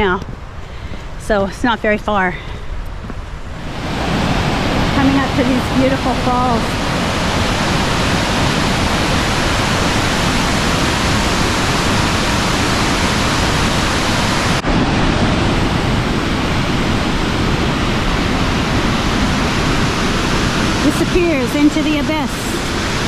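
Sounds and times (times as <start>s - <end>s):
waterfall rushing: 3.5s - 23.0s.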